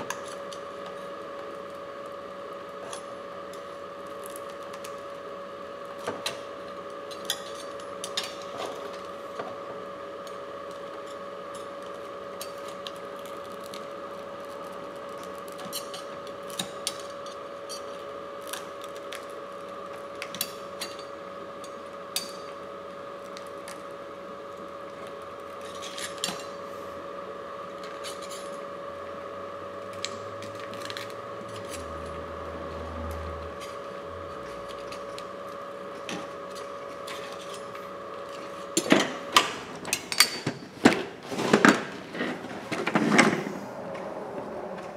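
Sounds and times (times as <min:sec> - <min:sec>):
steady high whine: 0:00.0 - 0:44.9.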